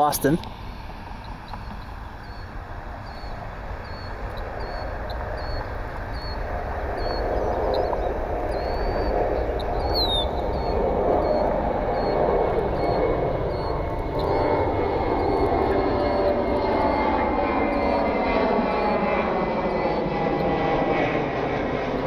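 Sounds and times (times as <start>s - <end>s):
jet airliner engine rumble: 0.0s - 22.0s.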